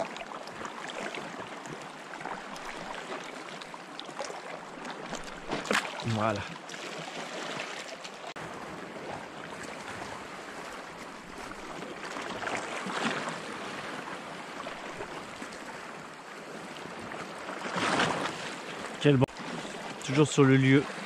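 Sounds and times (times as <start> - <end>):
small waves lapping: 0.0 - 21.0.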